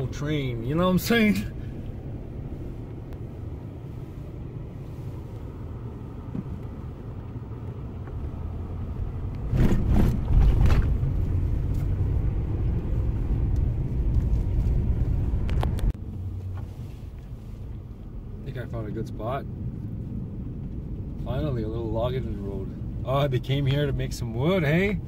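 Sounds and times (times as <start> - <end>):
truck engine and tyres rumbling: 0.0 - 25.0.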